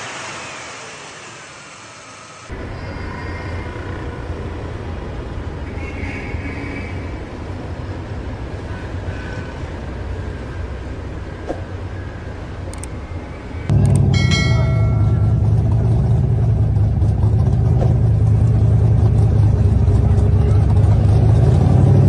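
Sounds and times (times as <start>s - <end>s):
vehicle road rumble: 2.5s - 22.0s.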